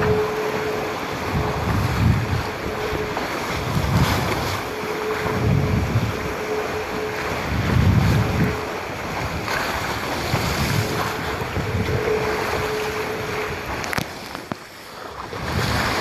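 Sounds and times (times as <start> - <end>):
low rumbling gusts: 0.0 - 16.0
water rushing past hulls: 0.0 - 16.0
wind buffeting microphone: 0.0 - 16.0.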